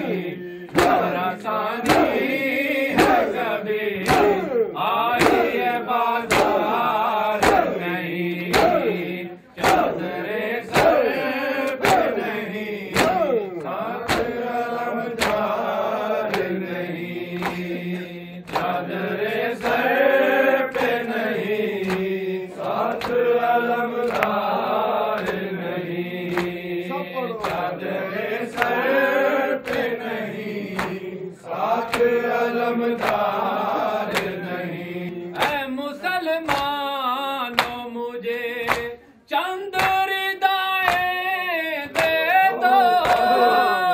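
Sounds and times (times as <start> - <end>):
men chanting together: 0.0 - 43.9.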